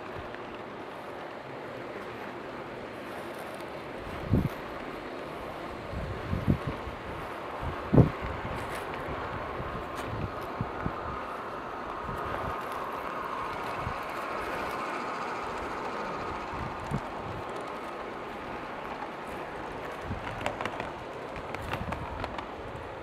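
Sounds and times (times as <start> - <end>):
model train motor hum: 0.0 - 23.0
wheel noise on rails: 0.0 - 23.0.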